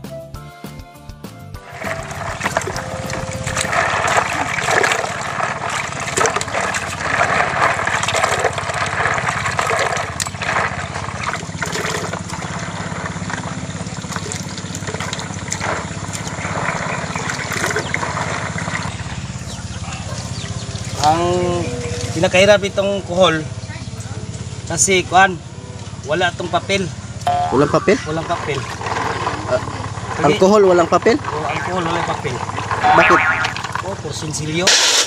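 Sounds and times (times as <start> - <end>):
water splashing and sloshing: 1.6 - 22.8, 27.9 - 35.0
steady low hum: 1.8 - 34.6.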